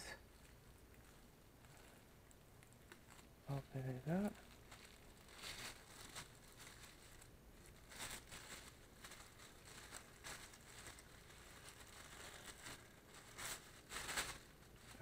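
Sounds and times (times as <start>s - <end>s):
plastic packaging crinkling: 0.1s - 15.0s.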